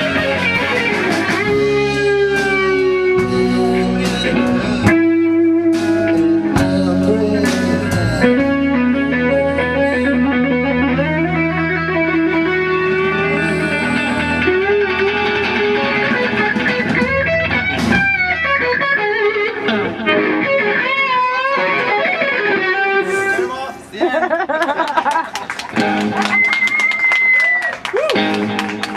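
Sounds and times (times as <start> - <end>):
electric guitar: 0.0 - 28.9
live band playing: 0.0 - 28.9.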